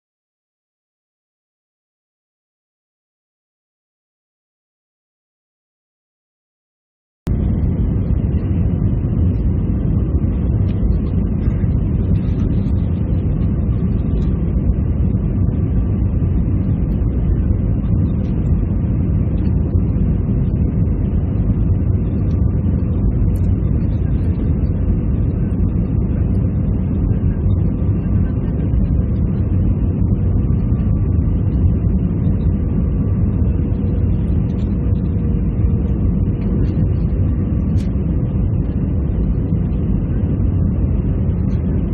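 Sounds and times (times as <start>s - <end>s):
airliner cabin engine rumble: 7.3s - 41.9s
faint steady hum: 7.3s - 41.9s.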